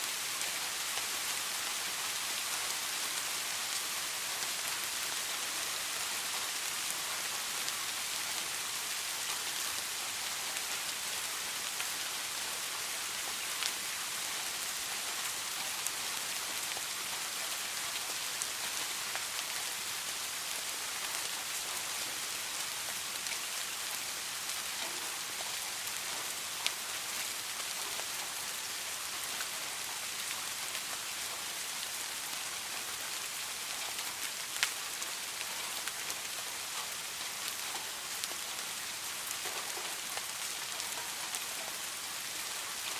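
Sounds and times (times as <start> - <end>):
soft rain falling: 0.0 - 42.9.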